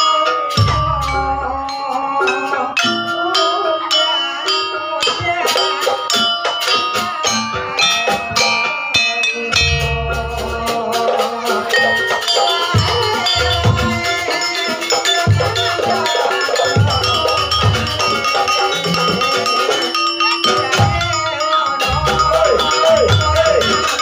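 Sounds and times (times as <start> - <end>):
drums: 0.0 - 24.0
mallet percussion notes: 0.0 - 24.0
rattling percussion: 0.0 - 24.0.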